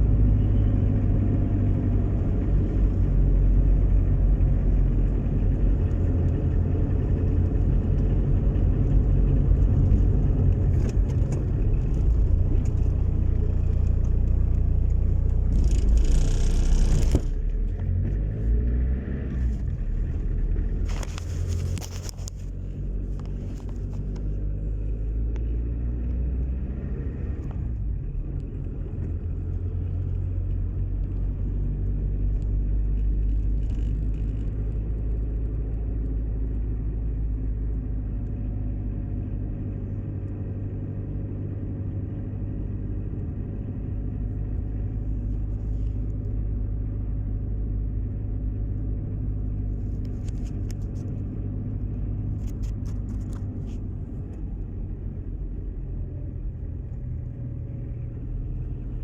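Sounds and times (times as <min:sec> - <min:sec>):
low engine rumble and hum: 0:00.0 - 0:59.0.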